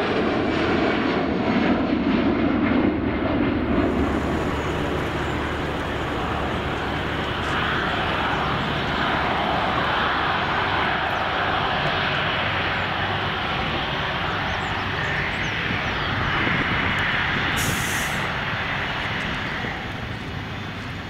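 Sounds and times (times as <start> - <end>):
jet engine whine and rush: 0.0 - 21.0.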